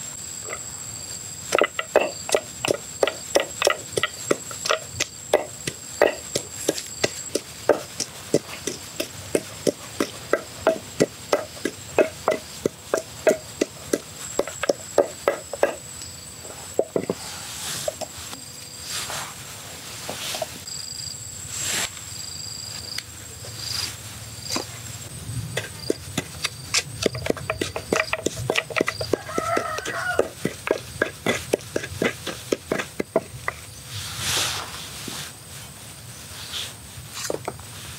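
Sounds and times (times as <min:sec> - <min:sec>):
high insect trill: 0:00.0 - 0:37.9.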